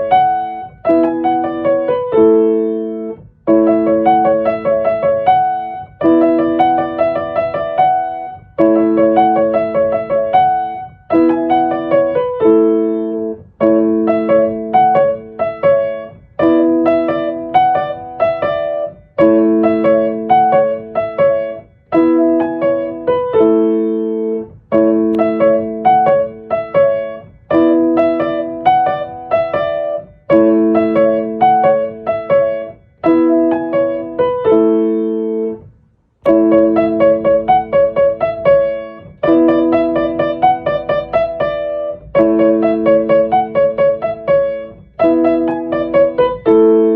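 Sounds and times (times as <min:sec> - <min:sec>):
gentle piano chords: 0:00.0 - 0:46.9.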